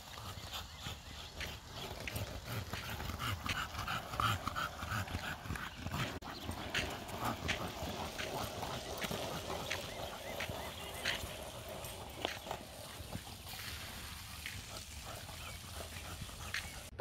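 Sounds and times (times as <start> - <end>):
skateboard wheels rumbling on asphalt: 0.0 - 17.0.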